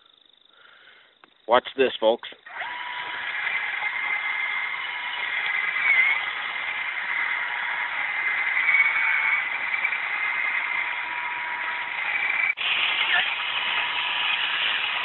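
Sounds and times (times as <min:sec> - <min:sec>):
auger grinding through soil: 0:02.4 - 0:15.0
power drill motor whine: 0:02.4 - 0:15.0.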